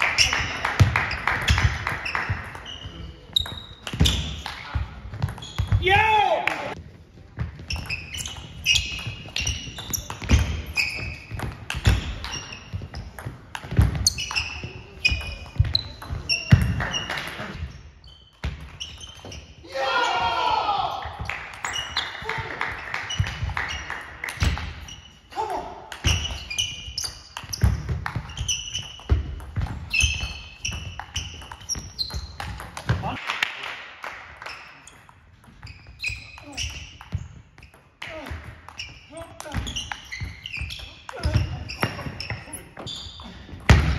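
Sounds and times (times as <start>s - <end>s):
sports shoes squeaking on floor: 0.0s - 33.2s, 34.4s - 43.9s.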